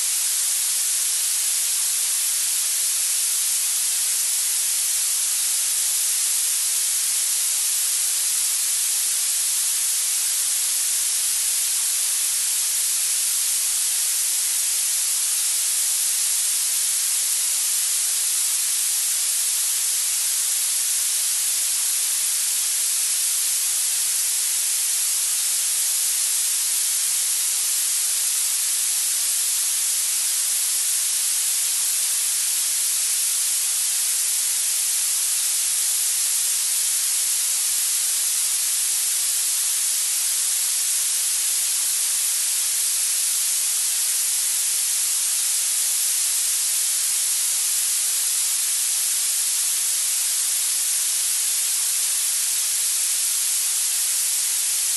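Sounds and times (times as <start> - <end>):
high-pitched masking noise hiss: 0.0 - 54.9.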